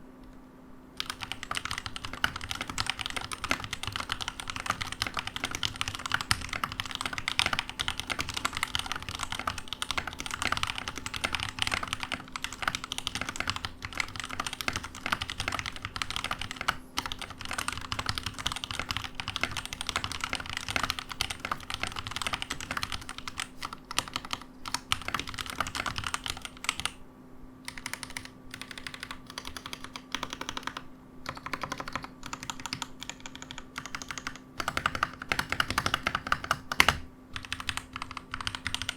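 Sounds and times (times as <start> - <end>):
mechanical keyboard typing: 1.0 - 27.0, 27.7 - 38.9.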